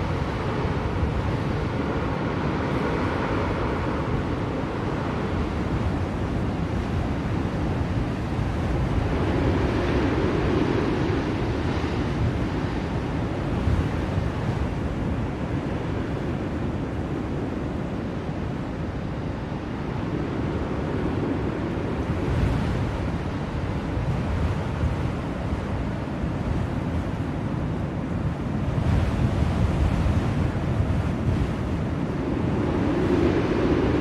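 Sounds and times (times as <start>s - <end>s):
blizzard wind rushing: 0.0s - 34.0s.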